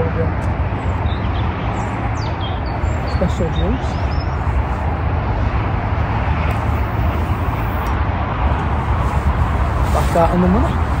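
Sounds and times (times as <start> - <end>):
motorway traffic rumble: 0.0 - 11.0.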